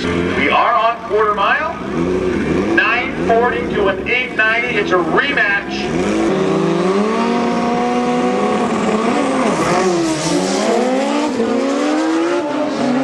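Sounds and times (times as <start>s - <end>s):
motorcycles accelerating hard: 0.0s - 13.0s.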